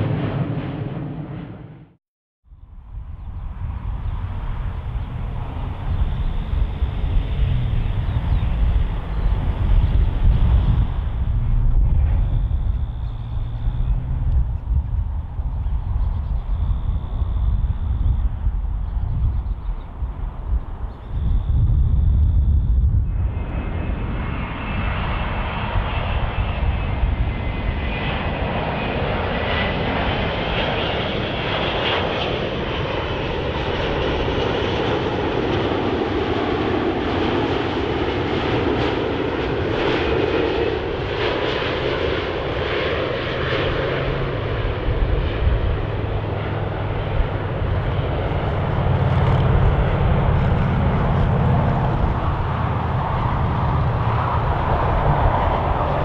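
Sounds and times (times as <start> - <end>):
jet engines rushing: 0.0 - 2.0, 2.7 - 56.0
deep rumble: 0.0 - 31.5, 37.8 - 56.0
faint high engine whine: 1.3 - 56.0.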